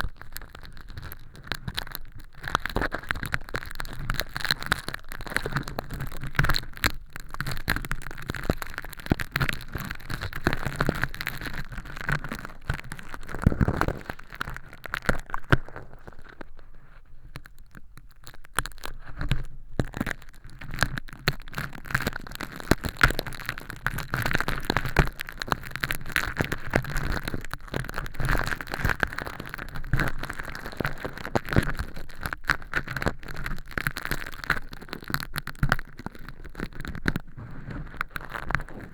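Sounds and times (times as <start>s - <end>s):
crinkly film crackling and scraping: 0.0s - 38.9s.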